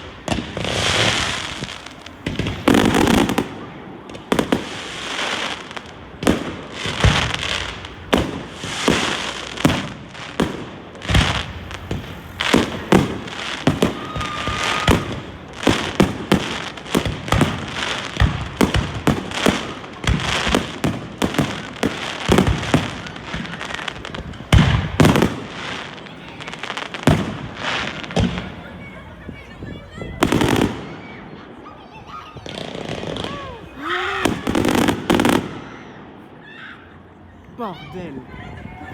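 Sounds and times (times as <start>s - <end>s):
fireworks bangs and crackling: 0.0s - 36.6s.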